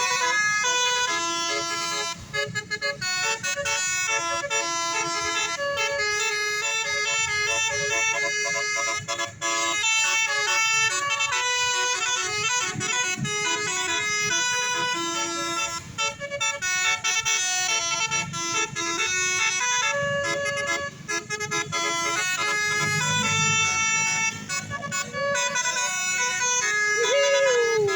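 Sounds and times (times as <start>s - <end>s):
multi-tone bus horn melody: 0.0s - 27.9s.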